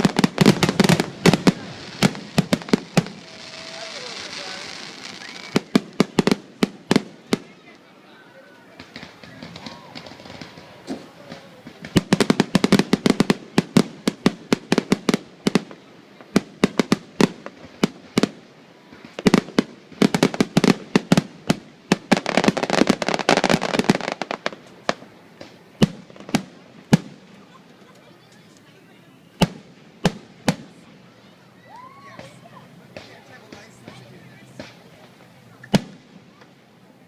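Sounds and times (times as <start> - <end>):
fireworks cracking and banging: 0.0 - 37.0.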